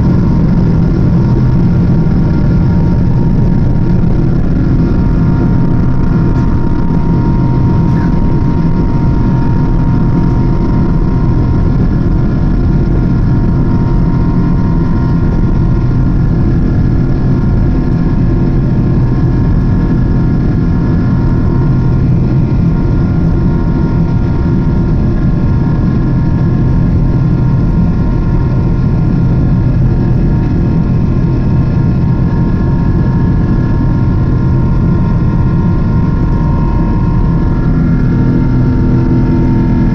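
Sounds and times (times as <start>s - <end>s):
airplane cabin rumble: 0.0s - 39.9s
jet engine whine: 0.0s - 39.9s.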